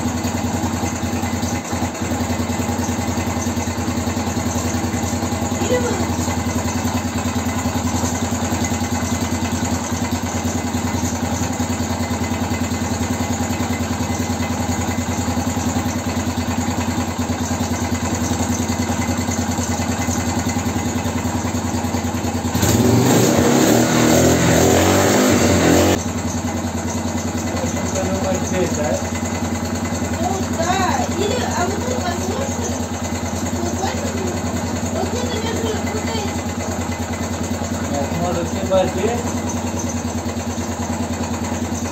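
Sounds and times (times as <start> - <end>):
engine knock: 0.0 - 41.9
motorcycle engine running: 0.0 - 41.9.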